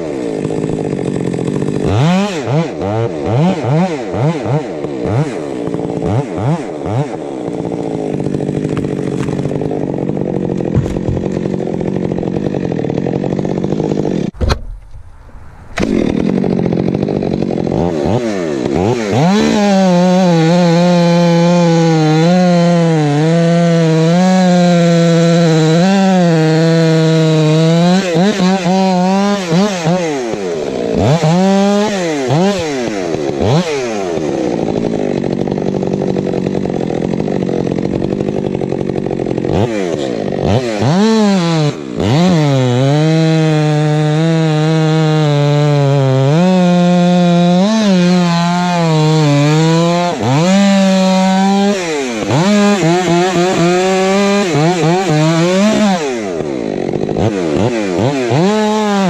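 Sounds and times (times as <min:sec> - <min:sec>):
chainsaw sawing through log: 0:00.0 - 0:14.7, 0:15.8 - 0:59.0.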